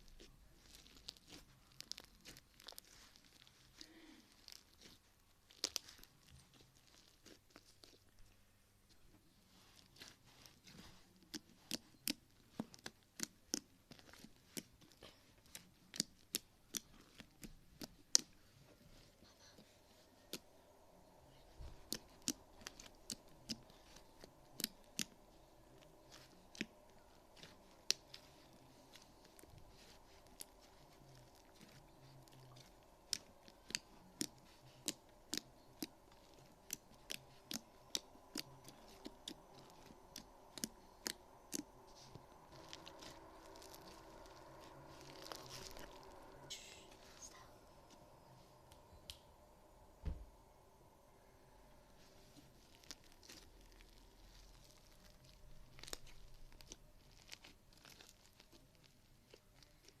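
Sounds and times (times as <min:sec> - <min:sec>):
slime popping and crackling: 0:00.0 - 0:08.3, 0:09.5 - 0:19.0, 0:19.9 - 0:50.3, 0:51.8 - 1:00.0.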